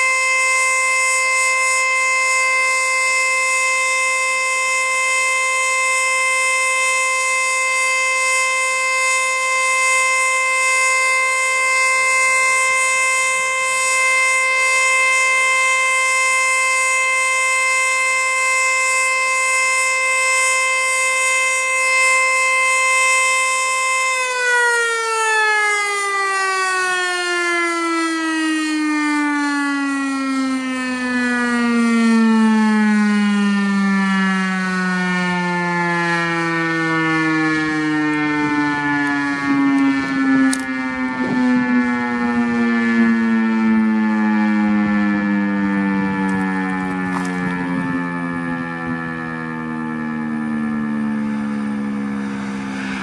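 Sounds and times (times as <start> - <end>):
warning siren winding down: 0.0 - 53.0.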